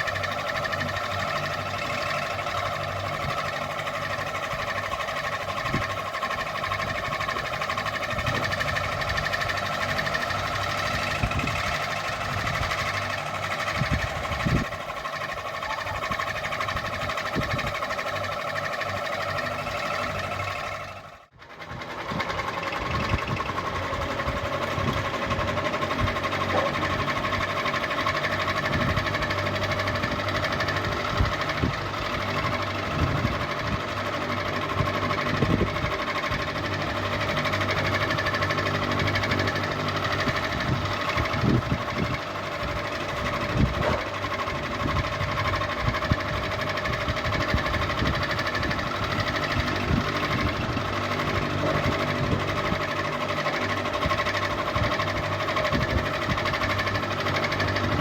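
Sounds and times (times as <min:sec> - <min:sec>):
fan clicking and rattling: 0:00.0 - 0:58.0.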